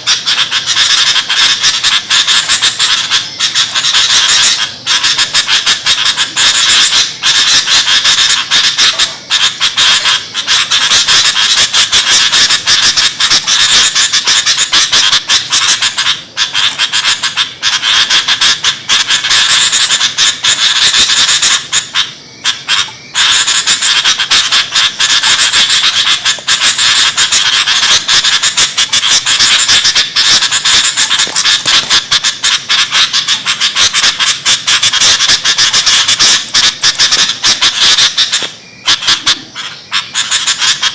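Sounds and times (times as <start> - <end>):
bulbuls chattering: 0.0 - 40.9.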